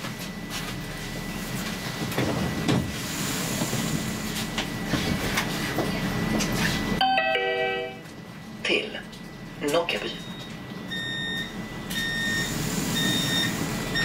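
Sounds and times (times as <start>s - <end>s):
tram interior hum and whine: 0.0s - 14.0s.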